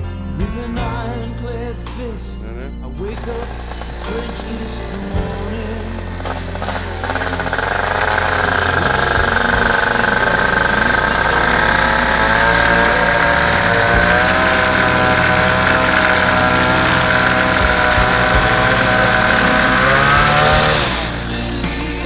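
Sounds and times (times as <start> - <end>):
propeller turning: 3.1 - 22.0
two-stroke engine running: 3.1 - 22.0.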